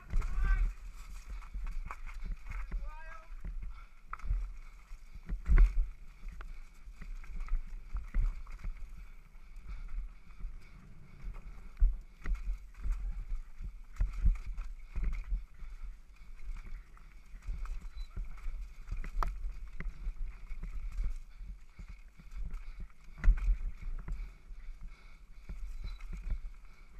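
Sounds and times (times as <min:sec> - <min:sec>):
mountain bike rattling on rough trail: 0:00.0 - 0:26.9.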